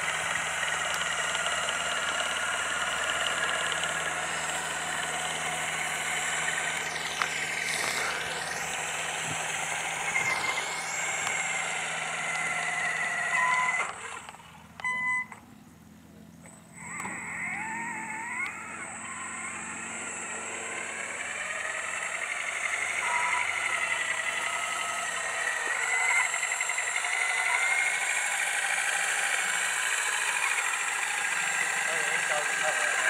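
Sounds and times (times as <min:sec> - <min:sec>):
engine with high whine: 0:00.0 - 0:33.0.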